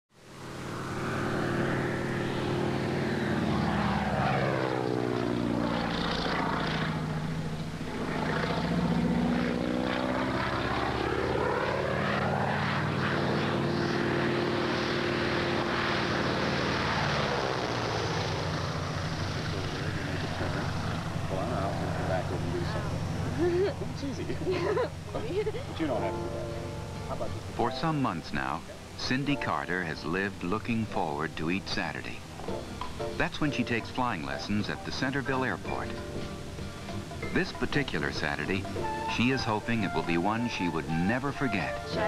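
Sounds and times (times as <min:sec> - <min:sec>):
propeller plane engine droning: 0:00.1 - 0:42.0.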